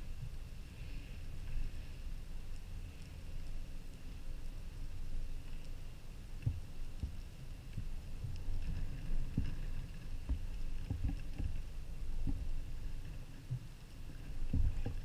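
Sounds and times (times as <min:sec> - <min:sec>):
faint high whine: 0:00.0 - 0:15.0
underwater rumble of water: 0:00.0 - 0:15.0
faint clicks: 0:00.2 - 0:15.0.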